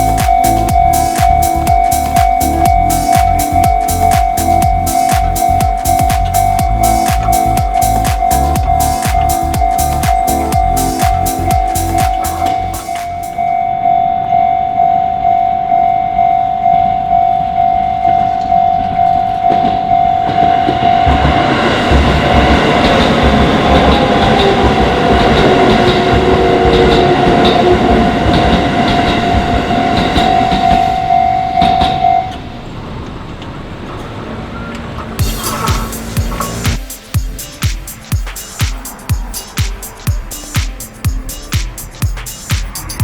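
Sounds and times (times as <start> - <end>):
train wheels clacking: 0.0 - 13.5, 18.4 - 32.4, 35.2 - 43.0
railway crossing bell ringing: 0.0 - 32.7, 35.2 - 43.0.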